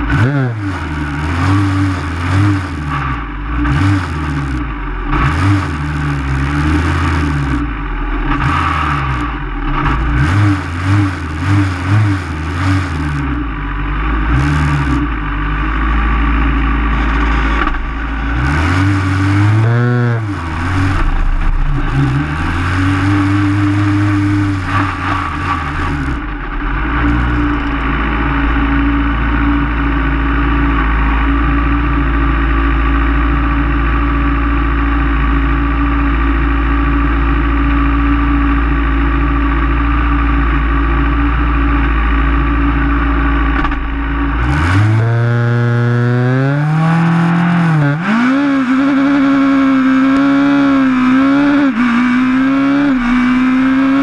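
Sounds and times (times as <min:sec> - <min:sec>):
race car engine idling and revving: 0:00.0 - 0:54.0.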